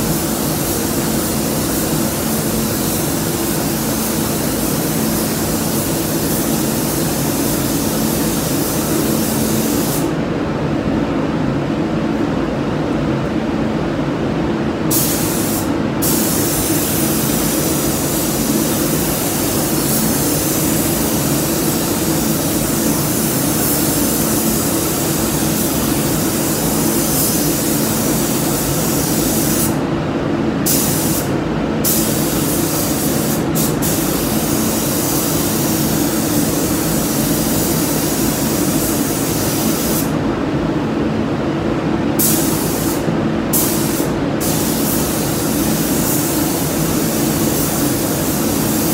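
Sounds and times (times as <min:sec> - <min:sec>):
spray gun hissing: 0:00.0 - 0:10.1, 0:14.9 - 0:29.8, 0:30.6 - 0:40.1, 0:42.2 - 0:48.9.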